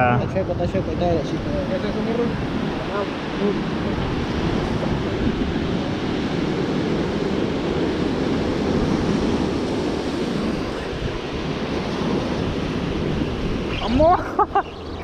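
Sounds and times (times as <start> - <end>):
surf washing up beach: 0.0 - 15.0
wind rumbling on microphone: 0.0 - 15.0.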